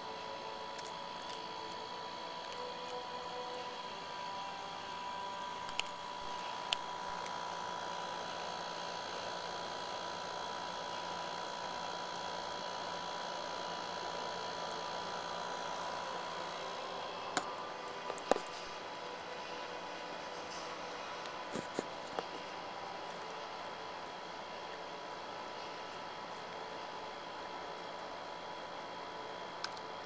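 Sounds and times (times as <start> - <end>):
background hiss and hum: 0.0 - 30.0.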